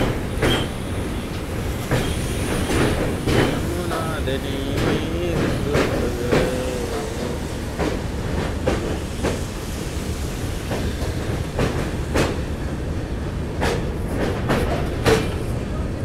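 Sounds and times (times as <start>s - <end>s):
wheels clacking over rail joints: 0.0s - 12.8s, 13.5s - 15.7s
train rumbling: 0.0s - 16.0s.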